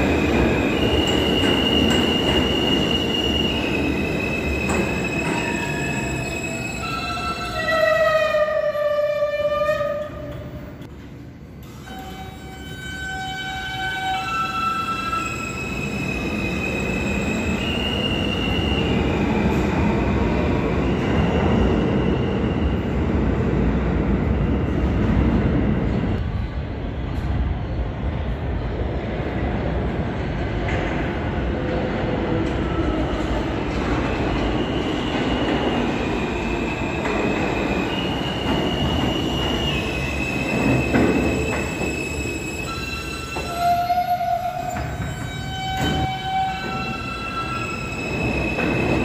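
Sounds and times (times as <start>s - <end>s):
subway train rumble: 0.0s - 49.0s.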